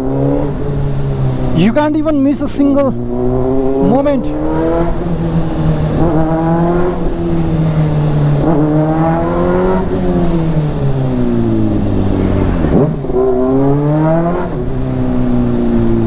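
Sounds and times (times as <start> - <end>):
motorcycle engine revving: 2.8 - 16.0.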